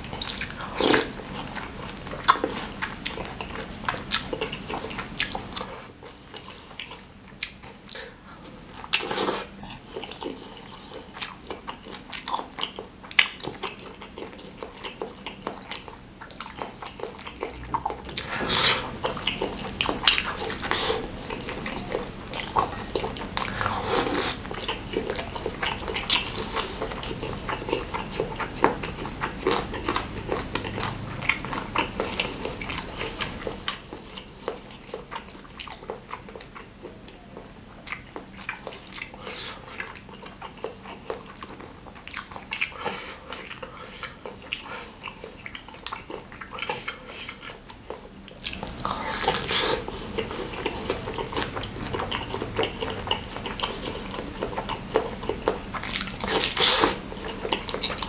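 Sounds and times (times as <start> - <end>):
close chewing and biting: 0.0 - 58.0.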